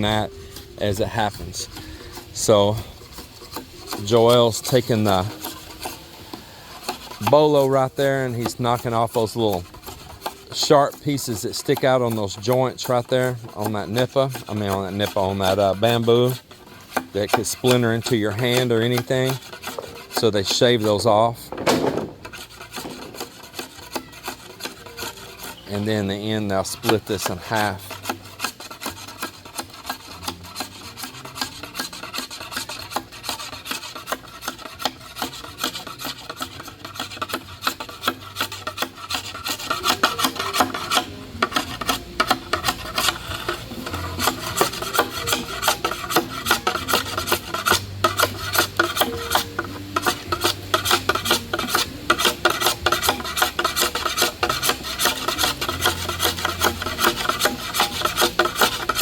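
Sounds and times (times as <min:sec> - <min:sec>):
knife scraping bamboo: 0:00.0 - 0:59.0.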